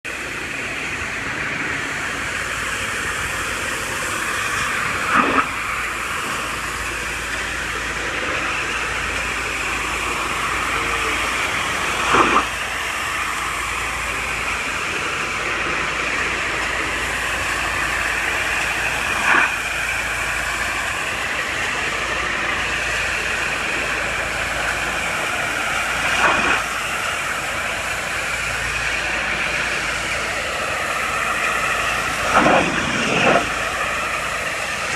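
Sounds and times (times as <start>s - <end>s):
pressure washer spray hissing: 2.1s - 34.9s.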